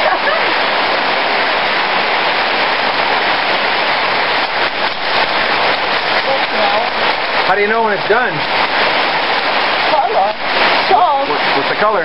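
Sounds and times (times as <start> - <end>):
hard rain falling: 0.0 - 12.0.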